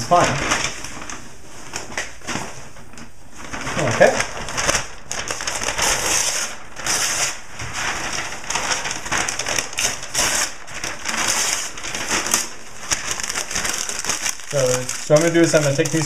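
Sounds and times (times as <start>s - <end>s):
newspaper crumpling: 0.0s - 16.0s.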